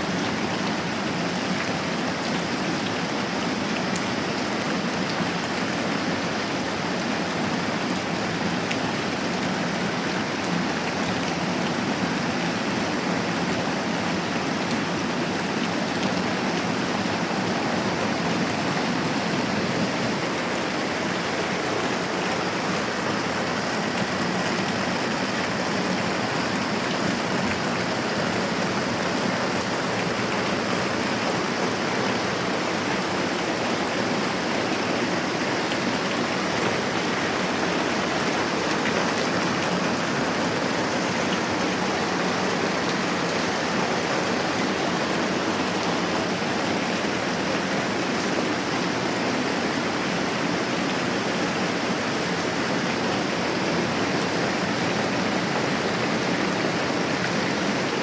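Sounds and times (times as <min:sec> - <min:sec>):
moderate rain falling: 0:00.0 - 0:58.0.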